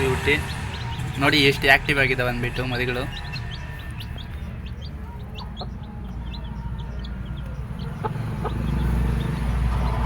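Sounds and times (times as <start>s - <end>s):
chicks peeping: 0.0s - 10.0s
low rumble: 0.0s - 10.0s.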